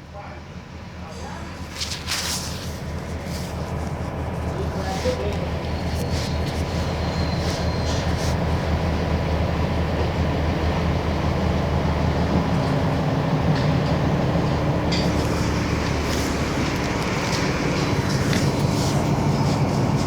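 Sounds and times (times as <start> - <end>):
diesel bus engine droning: 2.5 - 20.0.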